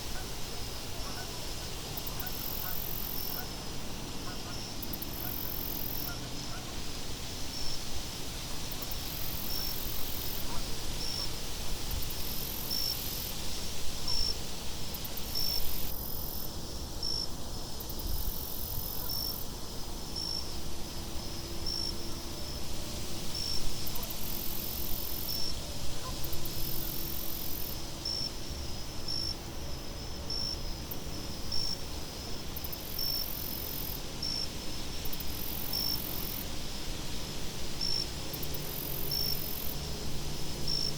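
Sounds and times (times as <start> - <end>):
crickets chirping: 0.0 - 7.9, 8.6 - 40.9.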